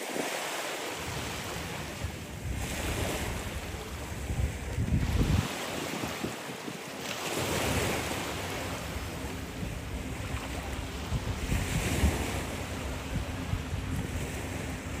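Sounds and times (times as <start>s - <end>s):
surf washing onto a beach: 0.0s - 15.0s
wind rumbling on microphone: 0.9s - 15.0s.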